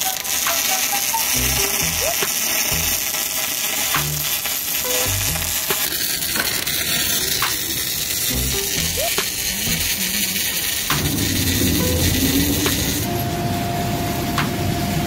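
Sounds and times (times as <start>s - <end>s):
arc welding crackling sizzle: 0.0s - 15.0s.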